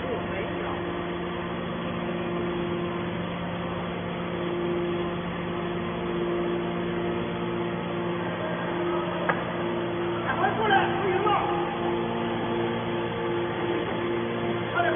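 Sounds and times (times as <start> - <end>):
higher machine tone: 0.0 - 14.9
hydraulic power unit humming: 0.0 - 14.9.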